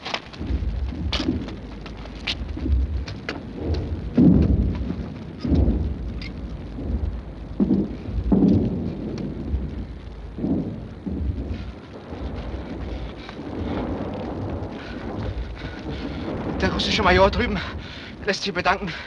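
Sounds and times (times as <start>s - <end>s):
distant artillery rumble: 0.0s - 19.0s
dull booms: 0.0s - 19.0s
sharp cracks: 0.0s - 19.0s.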